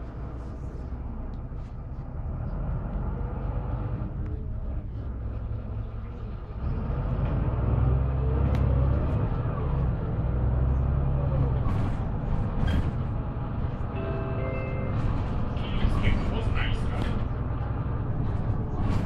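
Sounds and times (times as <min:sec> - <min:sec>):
bus diesel engine accelerating: 0:00.0 - 0:19.0.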